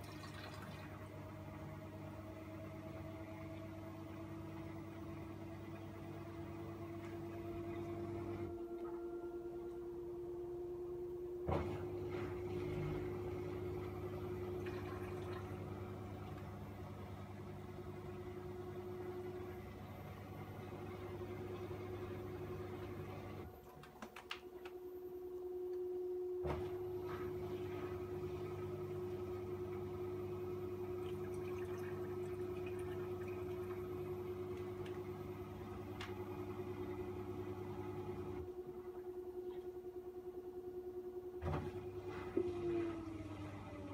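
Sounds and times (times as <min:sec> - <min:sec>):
washing machine humming and whining: 0:00.0 - 0:43.9.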